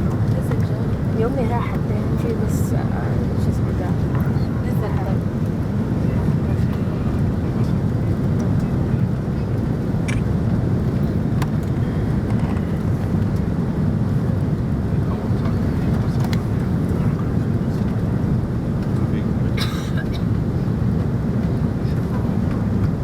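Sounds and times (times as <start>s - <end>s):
airliner low rumble: 0.0s - 23.0s.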